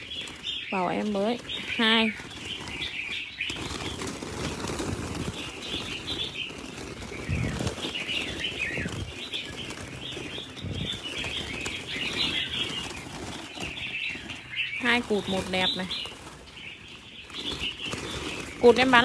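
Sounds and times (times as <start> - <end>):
bird chirps: 0.0 - 19.0
birds fluttering wings: 0.0 - 19.0.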